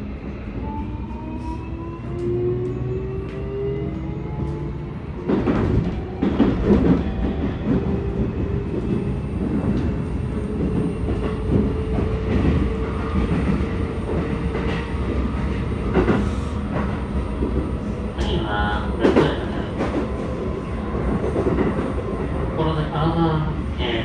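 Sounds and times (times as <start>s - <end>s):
train wheels and motors rumbling: 0.0s - 22.6s.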